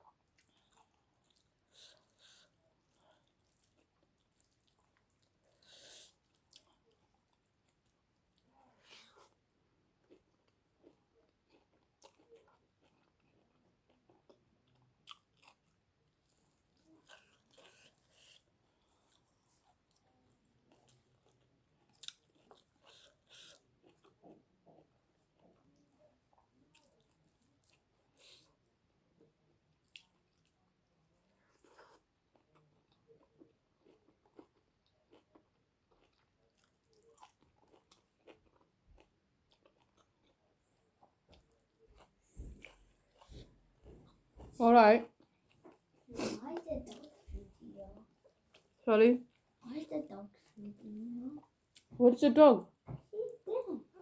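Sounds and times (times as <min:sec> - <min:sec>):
person chewing: 0:00.0 - 0:28.7, 0:29.7 - 0:30.6, 0:31.4 - 0:44.5, 0:45.1 - 0:49.6.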